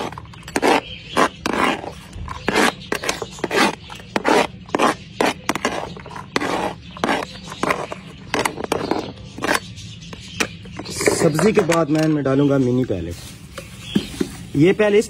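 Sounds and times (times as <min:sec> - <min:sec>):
metal spoon scraping metal tray: 0:00.0 - 0:12.8.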